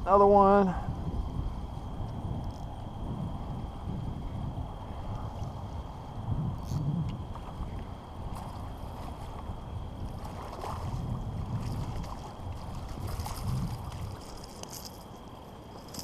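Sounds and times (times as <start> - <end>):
low rumbling water: 0.0 - 16.0
wind noise on microphone: 0.0 - 16.0.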